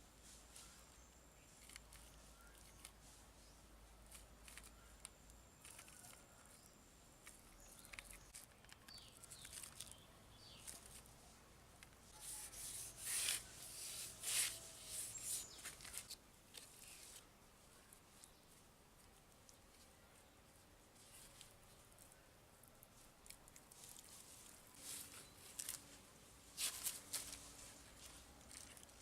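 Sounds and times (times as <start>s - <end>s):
rustling and scraping: 0.1s - 19.9s, 20.9s - 22.2s, 22.8s - 29.0s.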